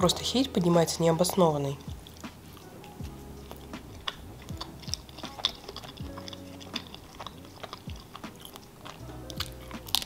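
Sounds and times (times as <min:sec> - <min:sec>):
chewing tortilla: 0:00.0 - 0:10.0.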